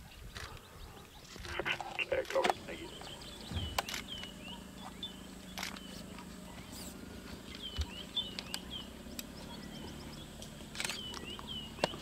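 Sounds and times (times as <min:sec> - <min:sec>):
falling bird chirps: 0:00.2 - 0:12.0.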